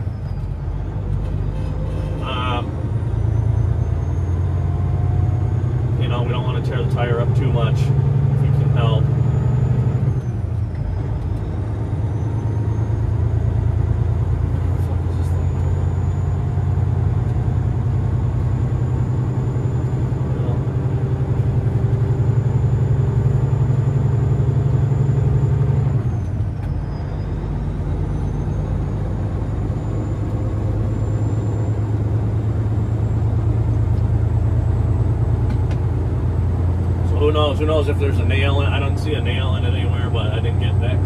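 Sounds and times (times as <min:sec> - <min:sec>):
truck diesel engine rumbling: 0:00.0 - 0:41.0.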